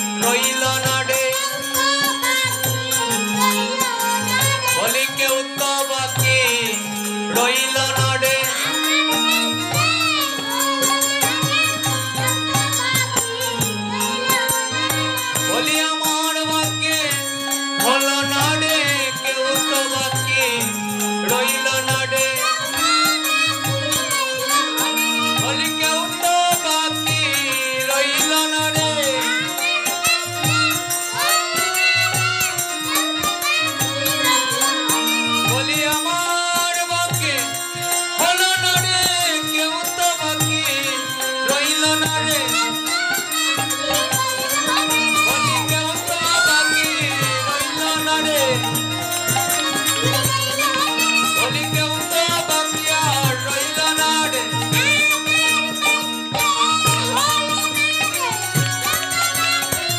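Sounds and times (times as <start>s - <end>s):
devotional singing: 0.0s - 59.9s
jingling hand percussion: 0.0s - 59.9s.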